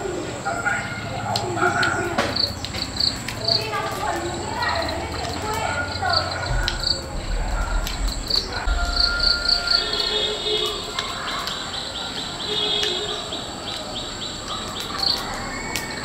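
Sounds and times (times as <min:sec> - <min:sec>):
birds calling: 0:00.0 - 0:16.0
insect trill: 0:00.1 - 0:16.0.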